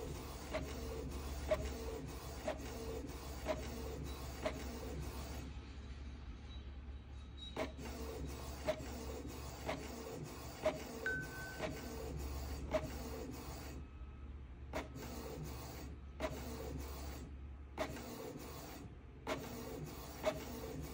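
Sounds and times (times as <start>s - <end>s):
inkjet printer running: 0.0s - 5.6s, 7.6s - 13.8s, 14.7s - 20.9s.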